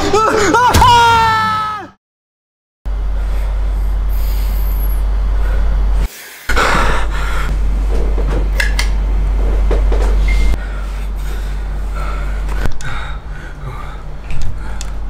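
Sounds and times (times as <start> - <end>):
loud low hum: 2.9 - 15.0.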